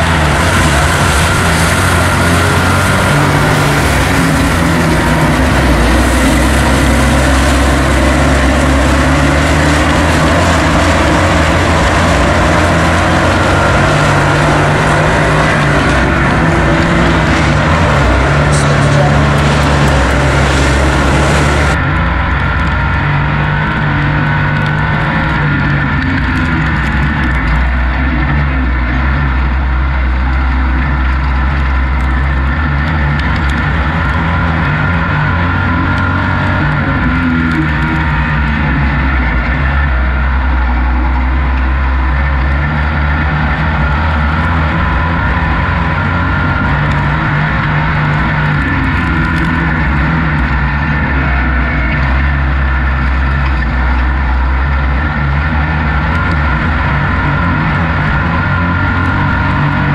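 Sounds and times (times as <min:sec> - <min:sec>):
race vehicle engine running: 0:00.0 - 0:59.9.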